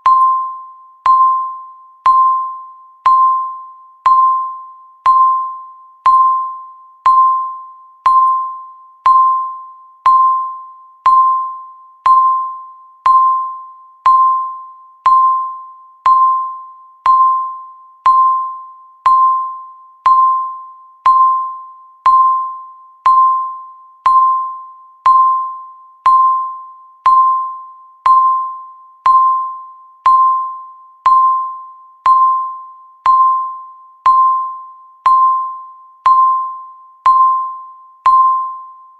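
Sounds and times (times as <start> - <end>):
timer beeps: 0.0 - 38.9.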